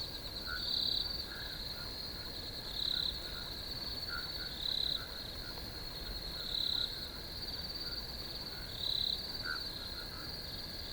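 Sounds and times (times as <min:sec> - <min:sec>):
crickets trilling: 0:00.0 - 0:10.9.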